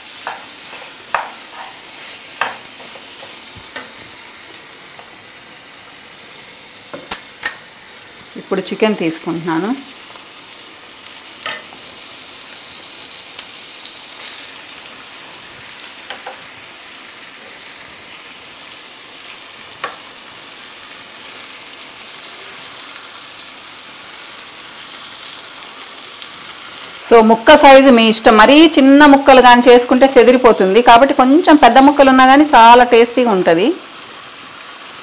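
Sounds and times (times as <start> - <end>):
masala sizzling in a pan: 0.0 - 35.0.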